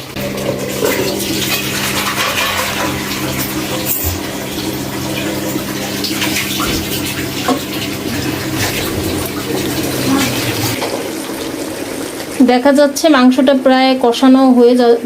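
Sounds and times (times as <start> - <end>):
curry sizzling and bubbling: 0.0 - 14.8.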